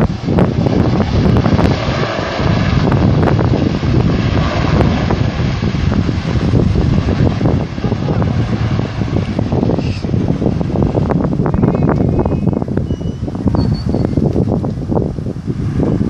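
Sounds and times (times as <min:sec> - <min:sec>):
aircraft engines: 0:00.0 - 0:16.0
wind buffeting microphone: 0:00.0 - 0:16.0.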